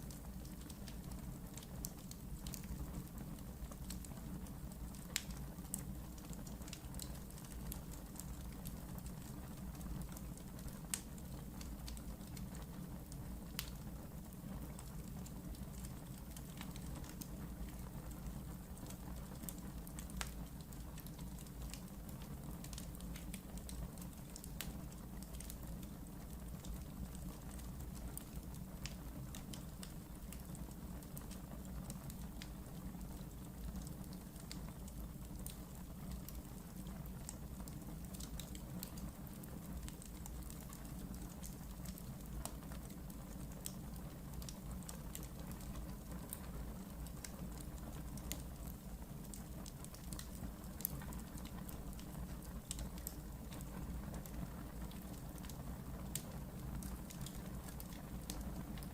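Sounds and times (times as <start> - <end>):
fire crackling pops: 0.0 - 58.9
fireplace fire rumbling: 0.0 - 58.9.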